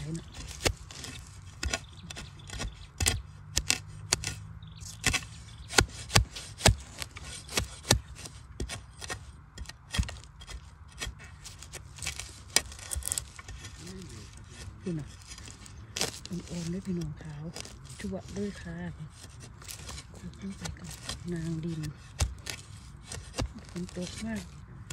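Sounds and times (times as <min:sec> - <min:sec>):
digging tool chopping dry soil: 0:00.0 - 0:24.9.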